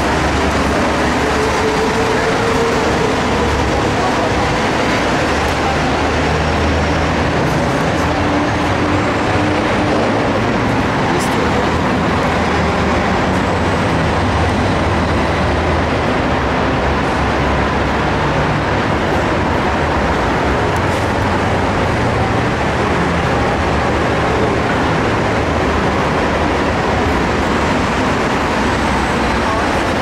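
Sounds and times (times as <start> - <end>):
metro train rumble: 0.0 - 30.0.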